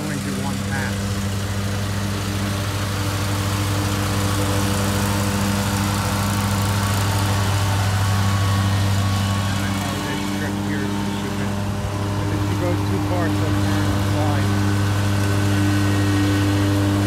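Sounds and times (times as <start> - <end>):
lawn mower engine drone: 0.0 - 17.0.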